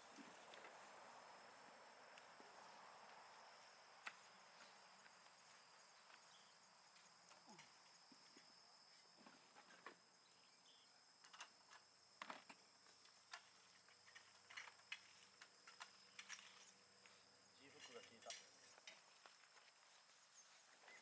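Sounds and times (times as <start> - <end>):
high-pitched insect song: 0.0 - 21.0.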